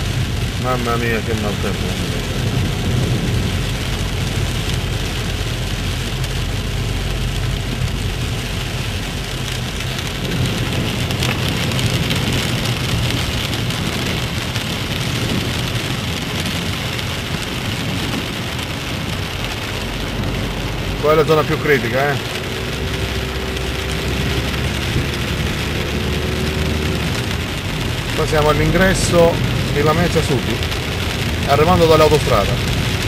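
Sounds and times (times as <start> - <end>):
car engine and road rumble: 0.0 - 33.0
heavy rain on car roof: 0.0 - 33.0.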